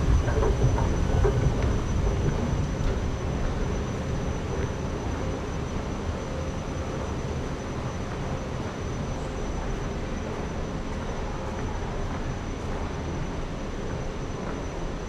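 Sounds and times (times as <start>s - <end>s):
high steady whine: 0.0s - 15.0s.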